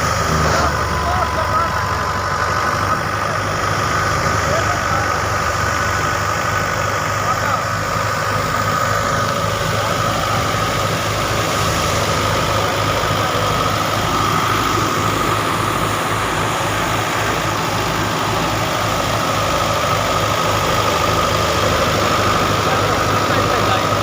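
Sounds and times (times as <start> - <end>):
high whine: 0.0 - 24.0
tractor engine running: 0.0 - 24.0.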